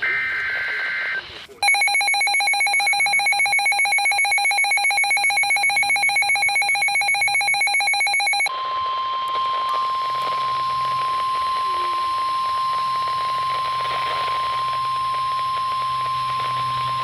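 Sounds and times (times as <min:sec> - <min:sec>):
rapidly pulsing electronic alarm: 0:00.0 - 0:17.0.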